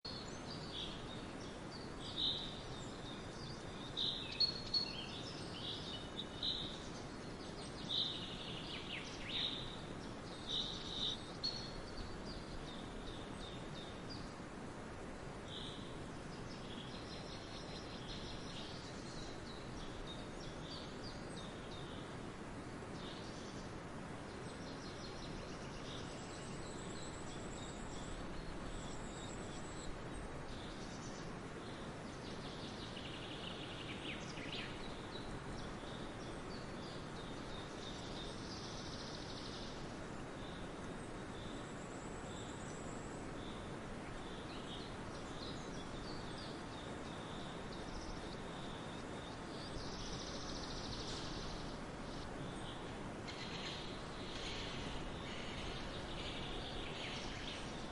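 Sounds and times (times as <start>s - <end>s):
outdoor ambience hiss: 0.0s - 57.9s
birds singing and chirping: 0.1s - 14.6s, 22.9s - 57.9s.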